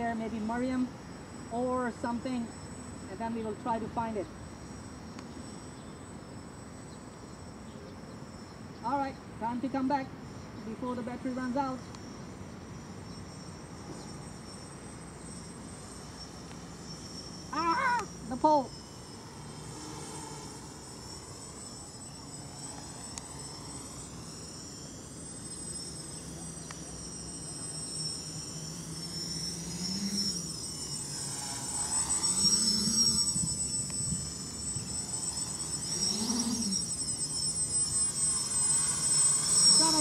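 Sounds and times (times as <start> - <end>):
quadcopter motors buzzing: 0.0 - 40.0.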